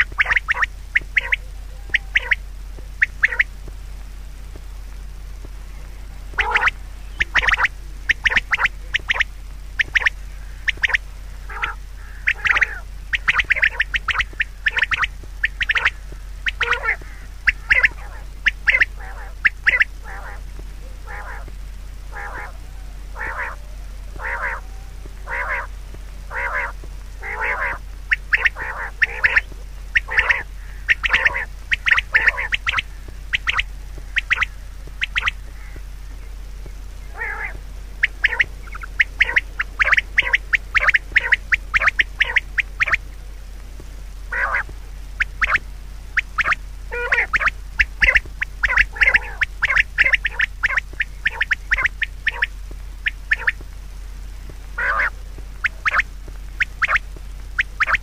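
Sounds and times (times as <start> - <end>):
short harsh animal calls: 0.0 - 2.4, 6.4 - 21.5, 22.1 - 35.8, 37.1 - 43.0, 44.3 - 45.6, 46.2 - 53.6, 54.8 - 56.1.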